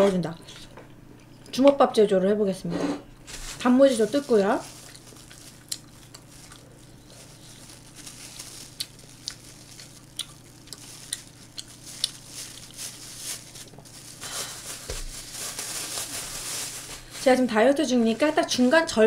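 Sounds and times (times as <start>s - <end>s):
plastic pouch crinkling: 3.3s - 19.0s.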